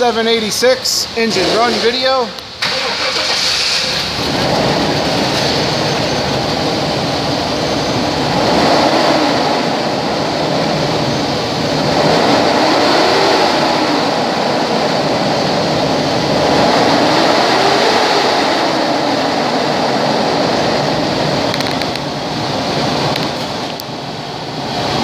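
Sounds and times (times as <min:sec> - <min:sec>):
engine revving: 0:01.2 - 0:23.8.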